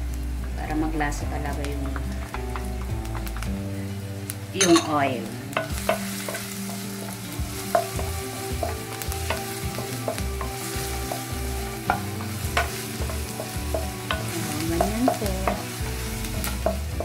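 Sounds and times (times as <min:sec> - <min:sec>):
onion and garlic sizzling in oil: 0:00.0 - 0:17.0.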